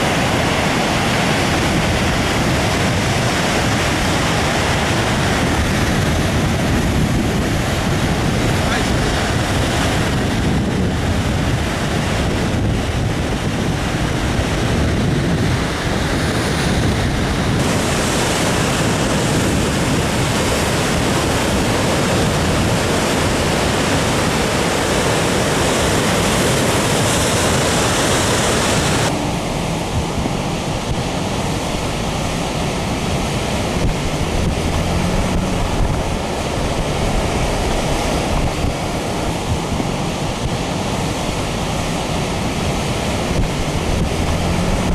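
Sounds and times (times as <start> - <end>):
heavy surf crashing: 0.0 - 44.9
wind buffeting microphone: 0.0 - 44.9.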